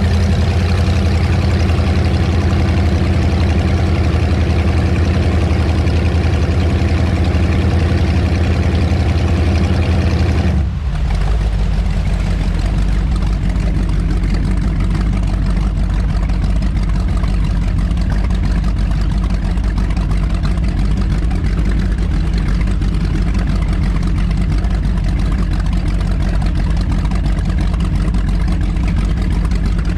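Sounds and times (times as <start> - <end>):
powerboat engines running: 0.0 - 29.9.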